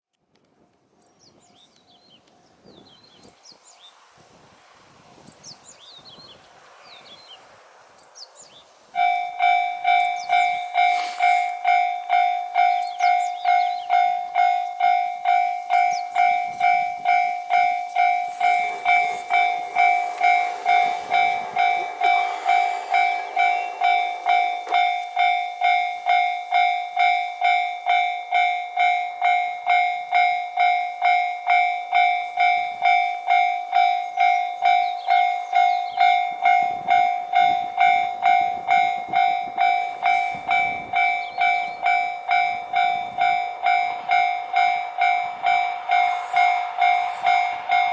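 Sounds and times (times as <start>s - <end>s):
level-crossing warning bell: 9.0s - 47.9s.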